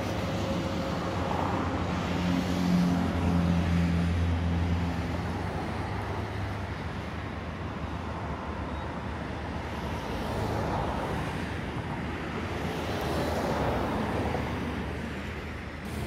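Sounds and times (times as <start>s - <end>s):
road traffic passing: 0.0s - 16.0s
vehicle engine hum: 0.0s - 16.0s.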